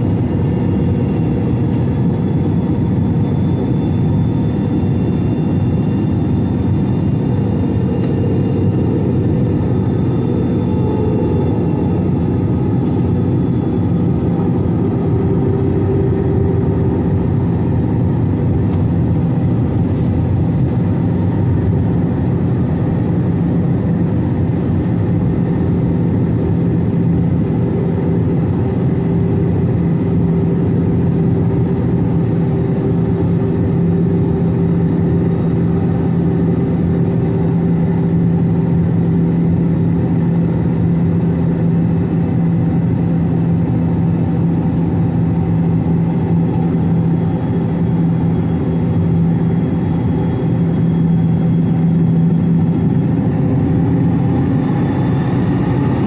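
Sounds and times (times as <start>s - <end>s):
jet drone in cabin: 0.0s - 56.0s.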